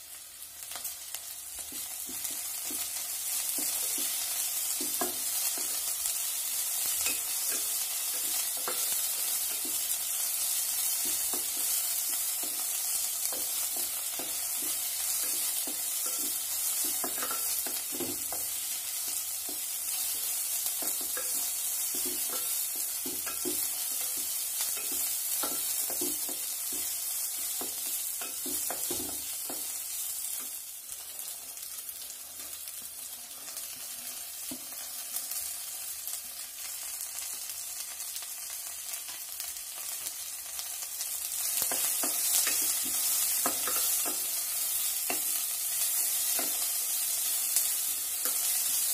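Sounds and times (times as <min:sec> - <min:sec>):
vegetables sizzling in oil: 0:00.0 - 0:48.9.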